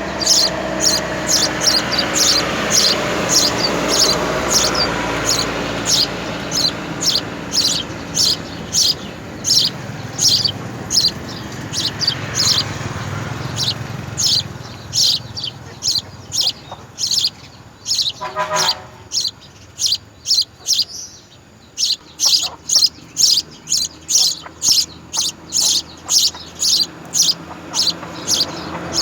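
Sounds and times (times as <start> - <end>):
nestling birds chirping: 0.0 - 29.0.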